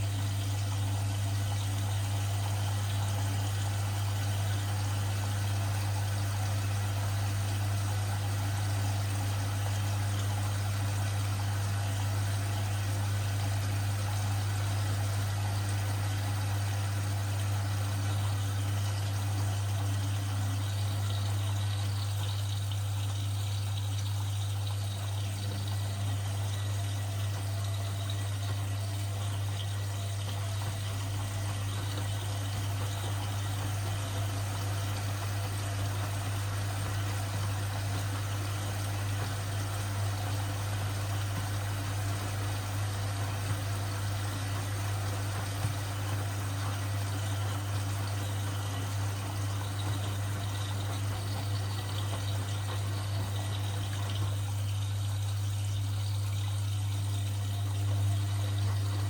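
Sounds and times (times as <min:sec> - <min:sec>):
washing machine hum: 0:00.0 - 0:59.0
water splashing in washing machine: 0:00.0 - 0:59.0.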